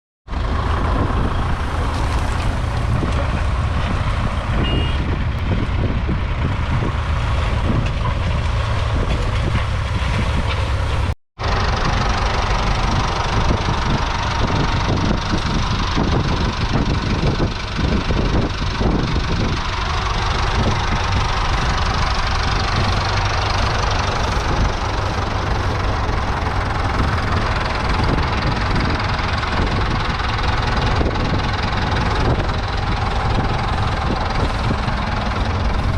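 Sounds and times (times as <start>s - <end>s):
tractor diesel engines running: 0.3s - 35.9s.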